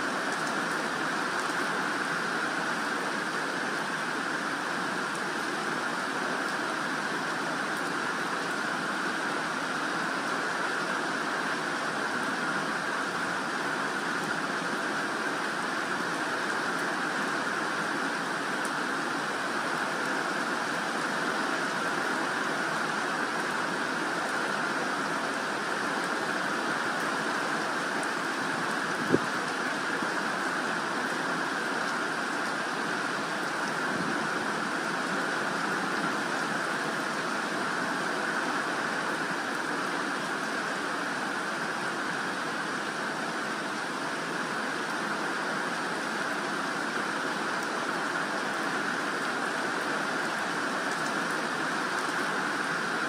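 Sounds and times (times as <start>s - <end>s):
rain on leaves and grass: 0.0s - 53.0s.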